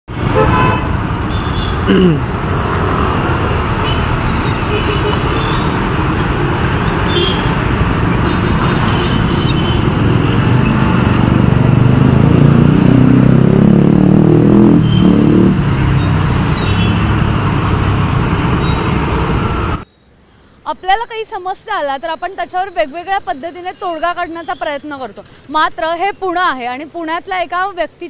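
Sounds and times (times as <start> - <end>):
traffic rumble: 0.1 - 28.0.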